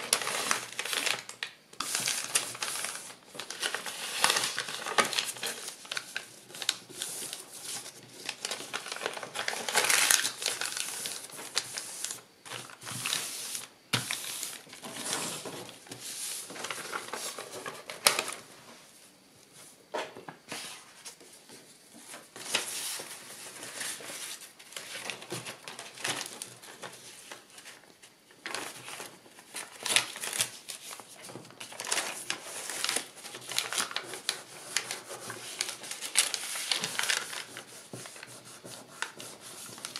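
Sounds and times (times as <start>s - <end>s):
paper rustling and crinkling: 0.0s - 18.5s, 20.1s - 39.9s.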